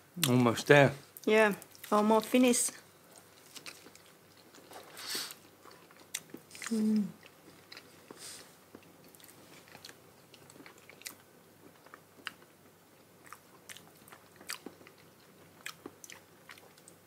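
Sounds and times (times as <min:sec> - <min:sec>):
people chewing wetly: 0:03.0 - 0:17.0.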